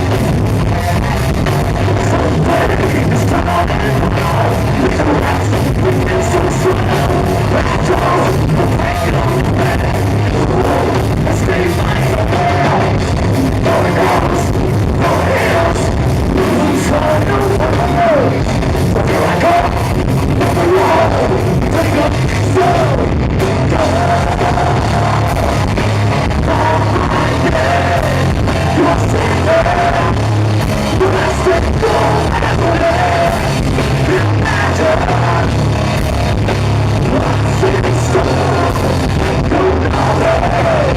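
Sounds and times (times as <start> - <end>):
heavy rock band playing: 0.0 - 40.9
person singing and yelling: 1.5 - 35.9, 37.0 - 40.9.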